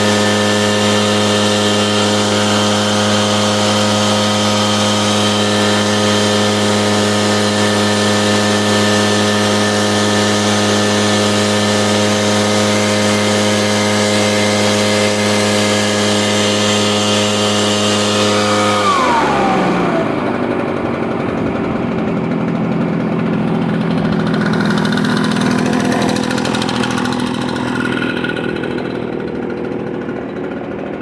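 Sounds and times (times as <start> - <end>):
leaf blower engine running: 0.0 - 31.0.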